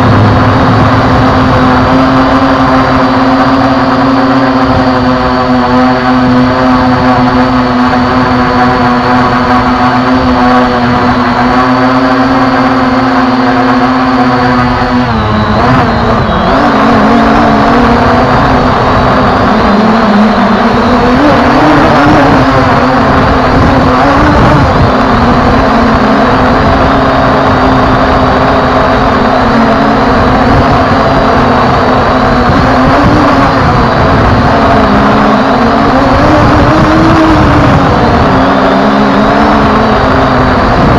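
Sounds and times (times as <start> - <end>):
drone propellers whining: 0.0 - 40.9
rough wind noise: 0.0 - 40.9.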